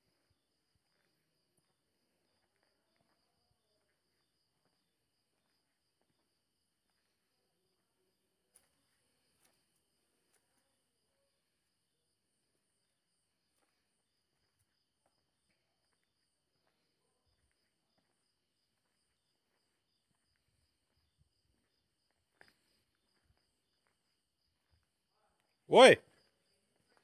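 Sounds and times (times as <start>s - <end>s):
crickets chirping: 0.0s - 25.6s.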